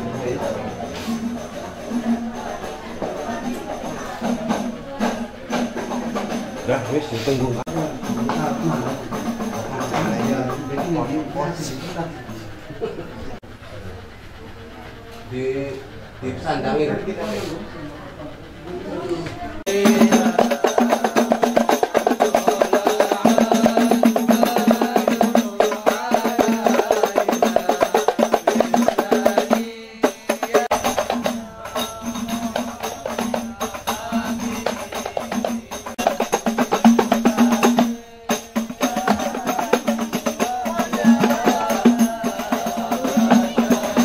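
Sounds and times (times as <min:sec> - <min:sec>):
tambourine jingles: 0:00.0 - 0:11.2, 0:19.7 - 0:44.0
music with hand percussion: 0:00.0 - 0:12.4, 0:19.6 - 0:44.0.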